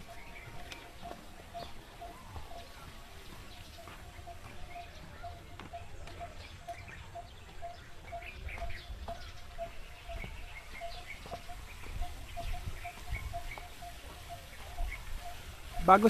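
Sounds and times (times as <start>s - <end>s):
high bird chirps: 0.0s - 16.0s.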